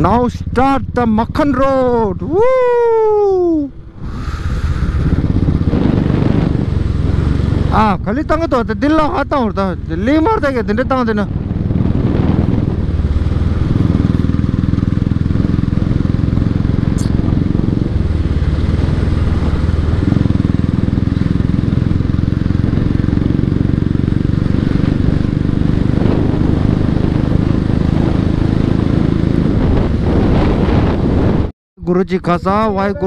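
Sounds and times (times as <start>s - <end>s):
motorcycle engine running: 0.0s - 2.4s, 4.6s - 31.5s.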